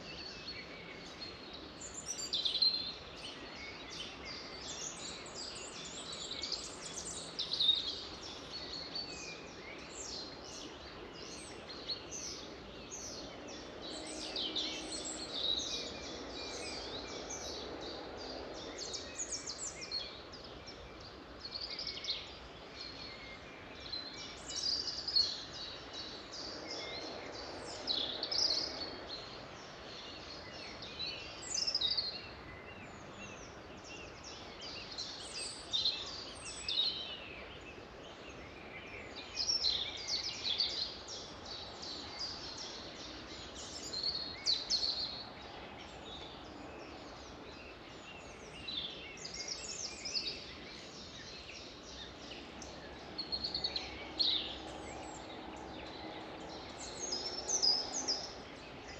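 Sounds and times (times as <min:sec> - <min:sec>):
songbirds singing and calling: 0:00.0 - 0:58.9
steady background hiss: 0:00.0 - 0:58.9.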